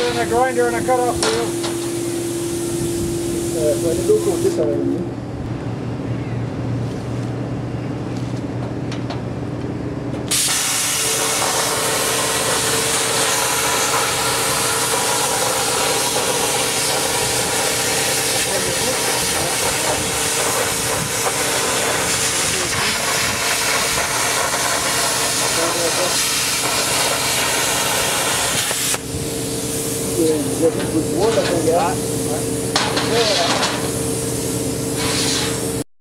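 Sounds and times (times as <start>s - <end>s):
plasma cutter hissing: 0.0s - 4.8s, 10.3s - 35.8s
low machine hum: 0.0s - 35.8s.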